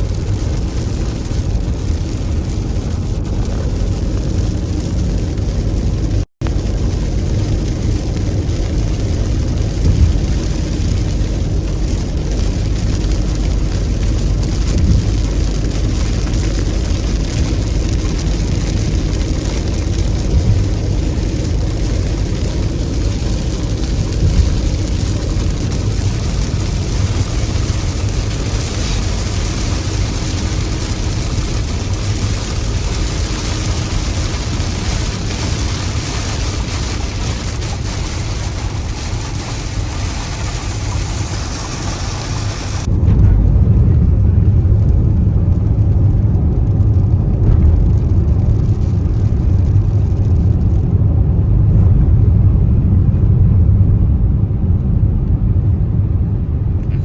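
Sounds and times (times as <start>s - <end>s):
moving vehicle hiss and rumble: 0.0s - 57.0s.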